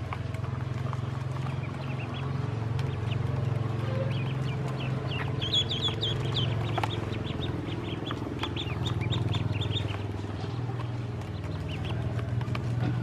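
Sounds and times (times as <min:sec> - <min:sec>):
ducklings peeping: 0:00.0 - 0:13.0
steady low hum: 0:00.0 - 0:13.0.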